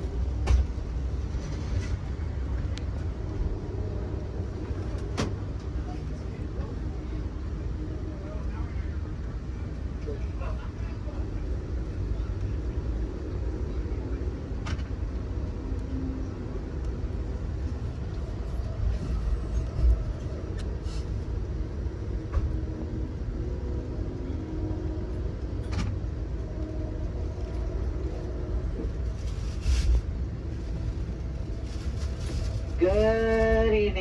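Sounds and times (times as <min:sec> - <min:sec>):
train car rumbling on rails: 0:00.0 - 0:34.0.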